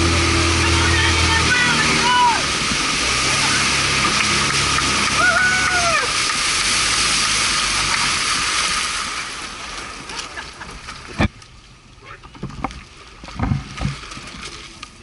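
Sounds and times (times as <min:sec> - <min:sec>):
outboard motor humming: 0:00.0 - 0:15.0
rushing water: 0:00.0 - 0:15.0.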